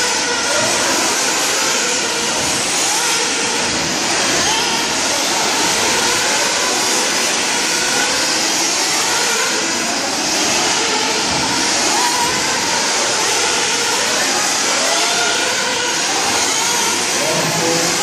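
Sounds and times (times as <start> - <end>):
rc car engines whining: 0.0 - 18.0.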